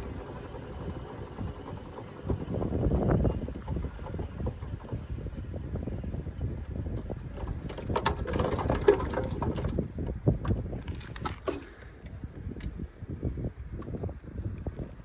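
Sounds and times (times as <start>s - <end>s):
rattling clatter: 0.0s - 12.7s
washing machine spin rumble: 0.0s - 15.0s.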